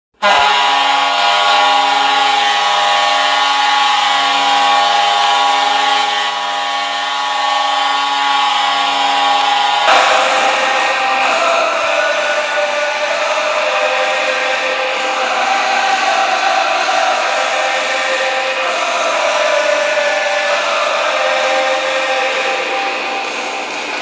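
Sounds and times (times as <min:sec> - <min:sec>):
goal horn blast: 0:00.2 - 0:23.7.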